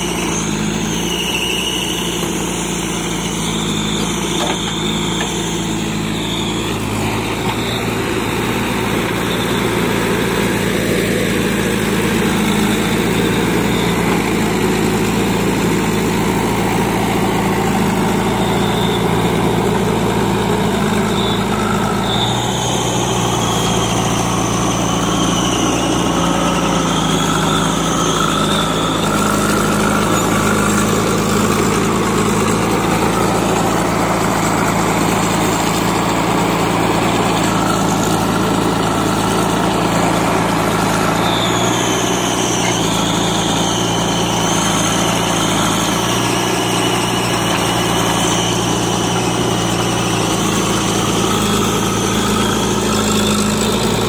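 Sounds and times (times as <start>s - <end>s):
diesel engine running: 0.0s - 54.0s
high whine: 0.0s - 54.0s.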